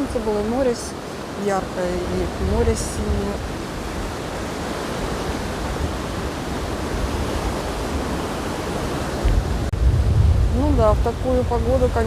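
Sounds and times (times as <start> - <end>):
sea surf washing up beach: 0.0 - 12.0
wind buffeting microphone: 0.0 - 12.0.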